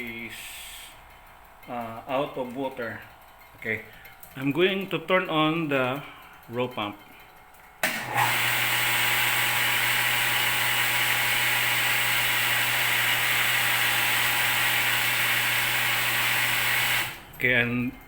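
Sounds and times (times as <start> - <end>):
electric water pump humming: 0.0 - 4.7, 7.8 - 17.6.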